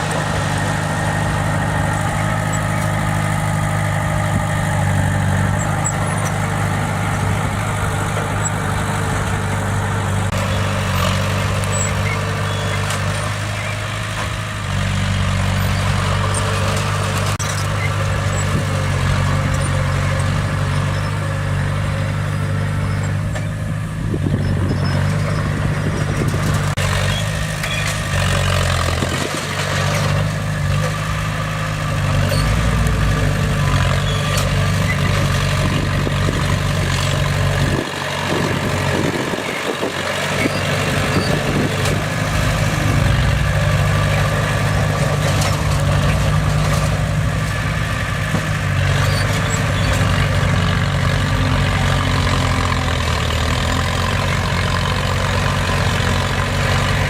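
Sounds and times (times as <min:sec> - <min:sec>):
bulldozer diesel engine rumbling: 0:00.0 - 0:57.0.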